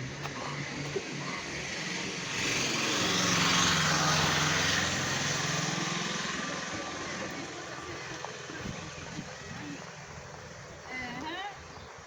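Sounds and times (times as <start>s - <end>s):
vehicle passing by: 0.0s - 10.3s.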